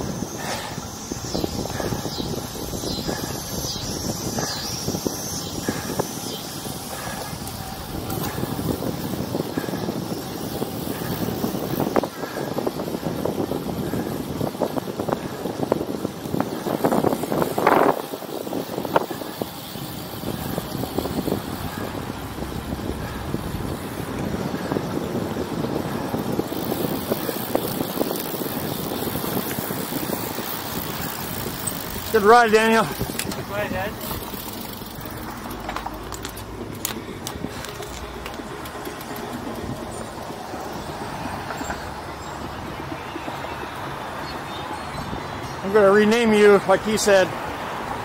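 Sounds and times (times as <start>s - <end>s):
bicycle tyre noise on road: 0.0s - 48.0s
wind rushing over microphone: 0.0s - 48.0s.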